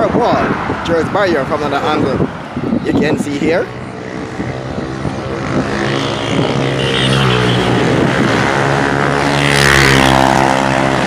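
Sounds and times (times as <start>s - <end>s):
vehicle passing close: 0.0s - 11.0s
vehicle engine humming: 0.6s - 11.0s.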